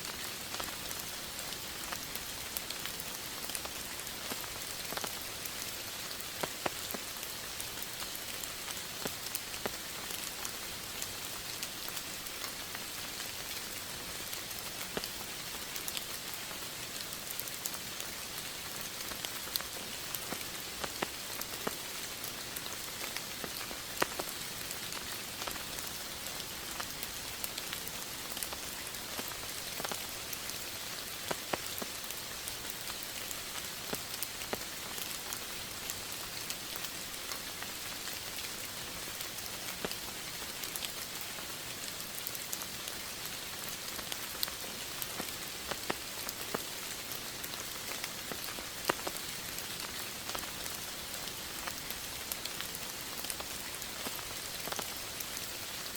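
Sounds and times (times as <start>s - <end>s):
steady rain hiss: 0.0s - 55.9s
raindrops ticking: 0.1s - 55.9s.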